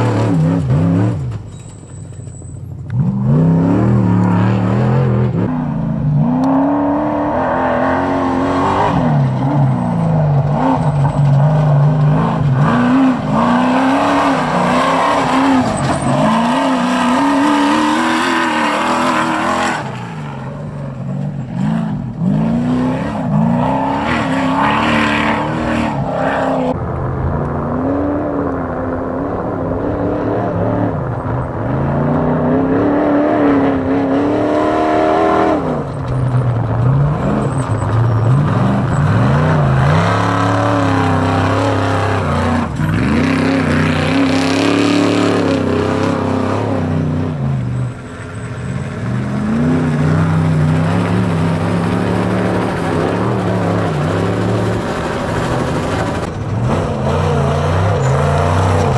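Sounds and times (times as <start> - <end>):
truck engines revving: 0.0 - 58.9.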